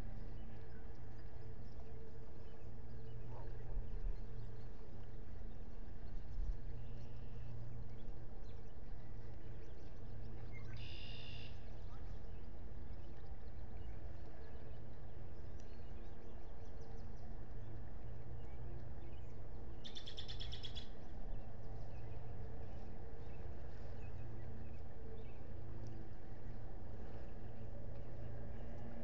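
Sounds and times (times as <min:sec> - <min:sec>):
steady low outdoor hum: 0:00.0 - 0:29.0.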